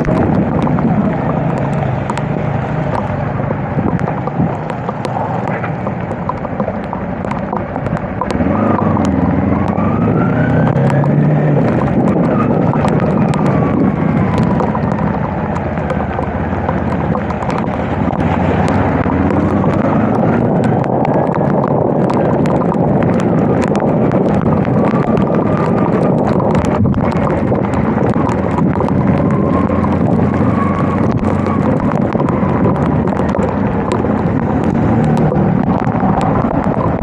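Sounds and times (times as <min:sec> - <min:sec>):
heavy rain: 0:00.0 - 0:37.0
motorcycle engine running: 0:00.0 - 0:37.0
sharp ticks: 0:00.0 - 0:37.0
wind noise on microphone: 0:00.0 - 0:37.0.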